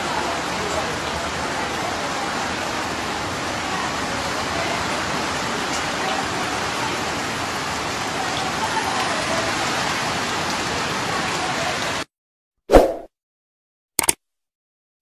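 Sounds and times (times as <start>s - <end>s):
rain on a metal roof: 0.0s - 12.1s.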